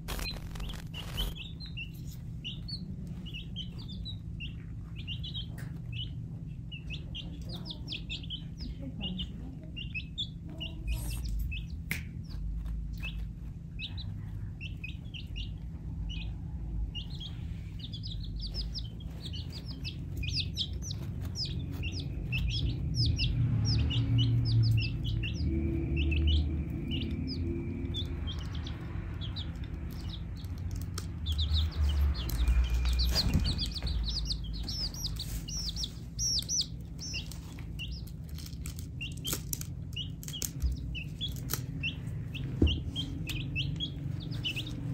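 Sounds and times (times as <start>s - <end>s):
baby chicks peeping: 0.0s - 44.9s
steady low rumble: 0.0s - 44.9s.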